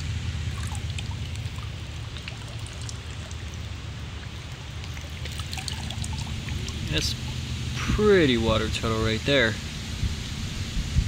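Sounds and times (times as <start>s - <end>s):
water drips and splashes: 0.0s - 10.5s
creek water over rocks: 0.0s - 11.0s
steady low rumble: 0.0s - 11.0s.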